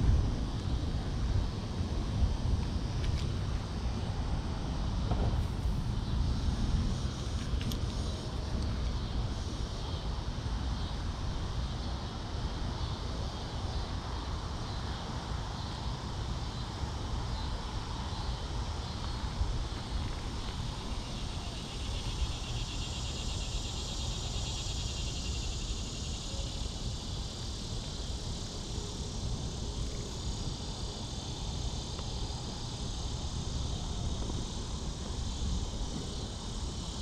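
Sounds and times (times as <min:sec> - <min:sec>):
constant low rumble: 0:00.0 - 0:37.0
insects trilling: 0:00.0 - 0:37.0.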